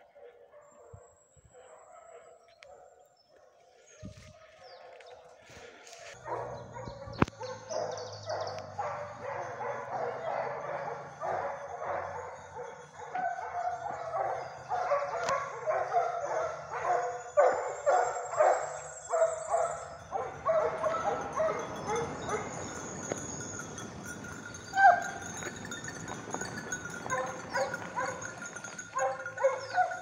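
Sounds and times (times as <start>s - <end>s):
hounds baying: 0.0s - 30.0s.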